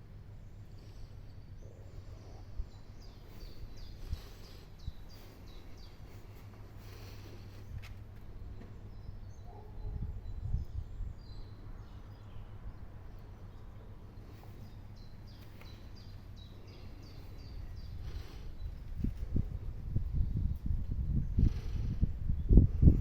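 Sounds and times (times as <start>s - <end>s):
low rumble in gusts: 0.0s - 23.0s
small bird chirping: 0.4s - 21.8s.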